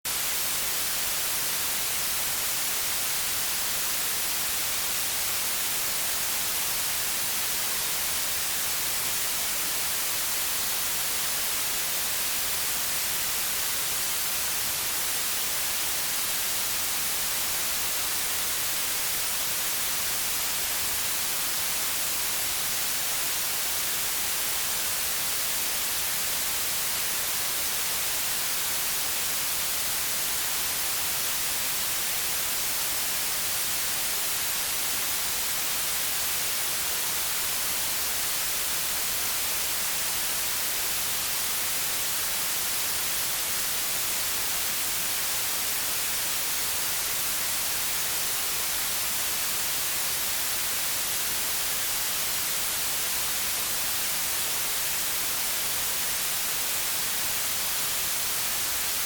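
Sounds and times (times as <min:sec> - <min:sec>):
white noise hiss: 0:00.1 - 0:59.0.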